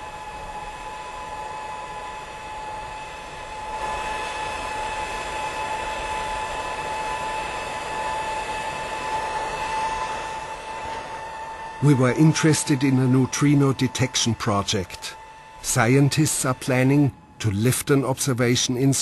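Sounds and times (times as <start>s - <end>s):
gas rushing hiss with whine: 0.0s - 19.0s.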